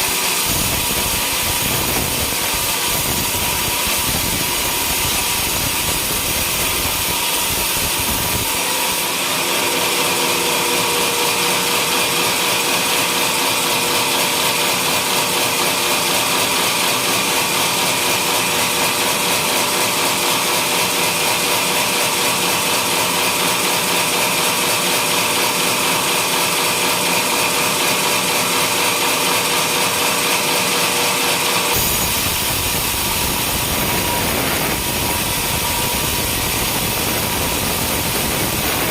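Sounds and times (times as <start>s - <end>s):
sawmill sawing wood: 0.0s - 38.9s.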